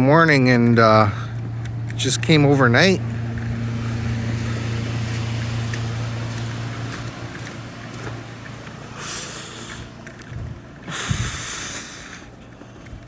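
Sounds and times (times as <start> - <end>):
light outdoor hiss: 0.0 - 13.0
low mechanical hum: 0.0 - 13.0.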